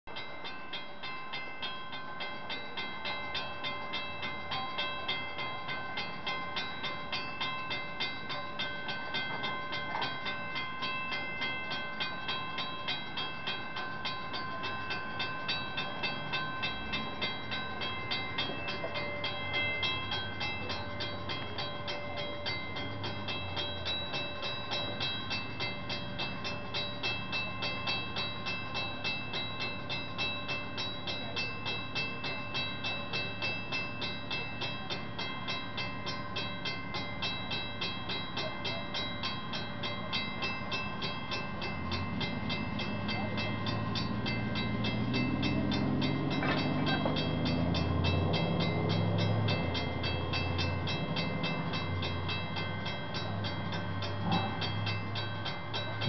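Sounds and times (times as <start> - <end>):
bell striking: 0.1 - 56.0
steam locomotives rumbling: 0.1 - 56.0.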